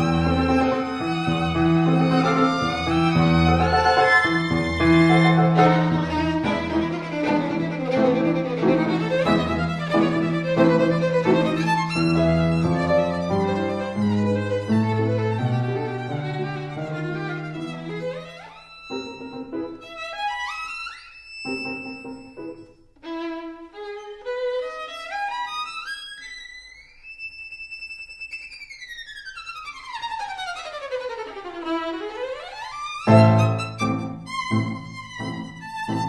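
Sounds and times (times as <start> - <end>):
solo violin music: 0.0 - 36.0.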